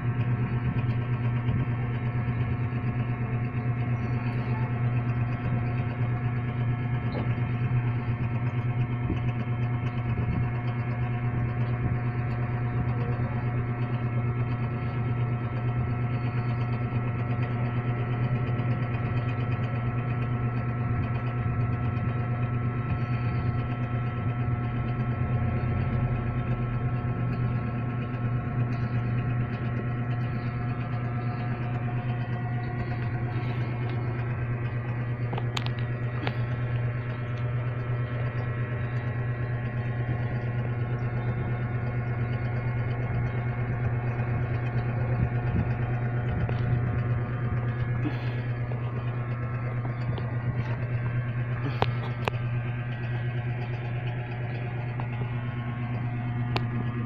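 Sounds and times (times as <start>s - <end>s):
amplifier hum and whir: 0.0s - 57.0s.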